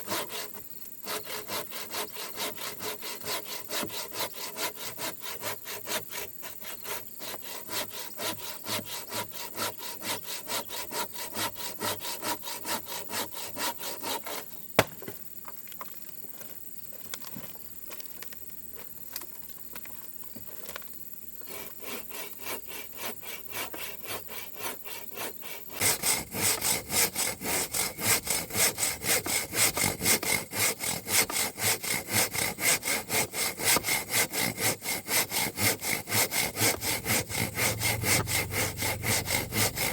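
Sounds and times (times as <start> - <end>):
hand saw cutting wood: 0.0 - 14.5, 21.4 - 39.9.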